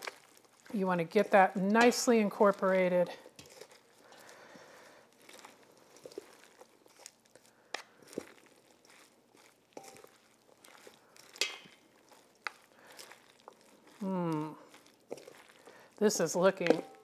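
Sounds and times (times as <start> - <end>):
salad leaves crunching and rustling: 0.0 - 17.0.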